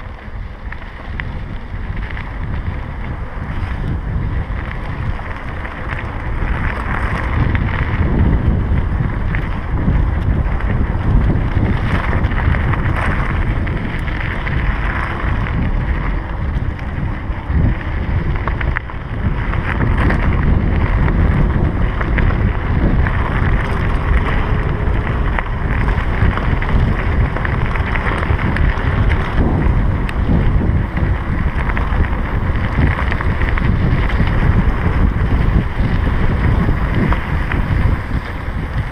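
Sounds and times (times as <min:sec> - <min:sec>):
small rattles and clicks: 0:00.0 - 0:38.9
tyres rumbling on gravel: 0:00.0 - 0:38.9
wind rush on microphone: 0:00.0 - 0:38.9.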